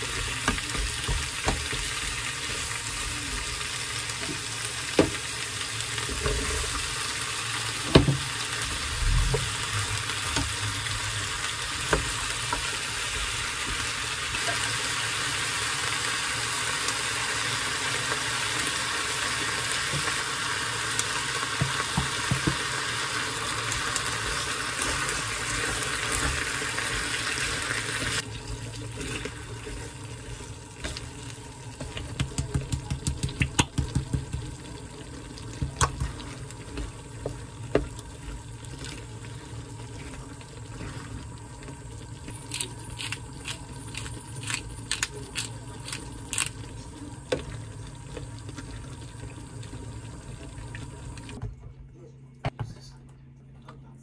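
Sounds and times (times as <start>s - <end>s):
food sizzling in a frying pan: 0.0s - 51.4s.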